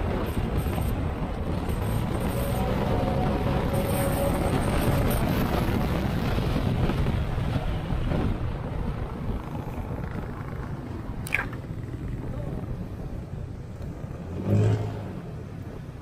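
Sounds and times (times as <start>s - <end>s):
scooter engine hum: 0.0s - 16.0s
wind and road noise: 0.0s - 16.0s.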